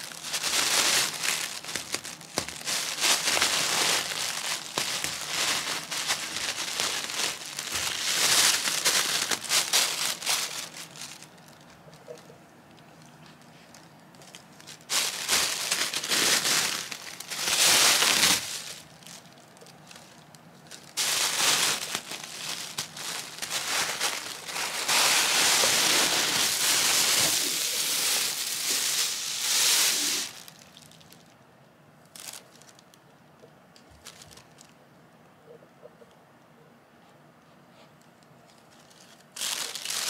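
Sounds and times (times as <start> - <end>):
plastic bag crinkling: 0.0 - 31.4, 32.0 - 33.0, 33.9 - 34.8, 38.5 - 40.0.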